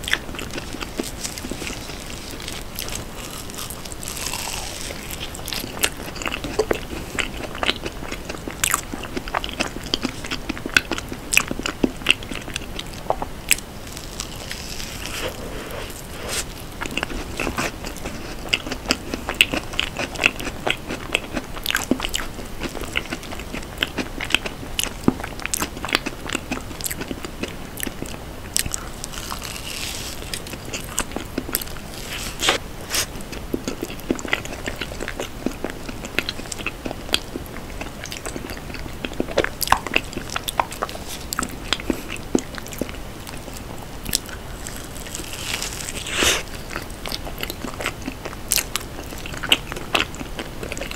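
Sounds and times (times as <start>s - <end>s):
wet chewing mouth sounds: 0.0s - 50.9s.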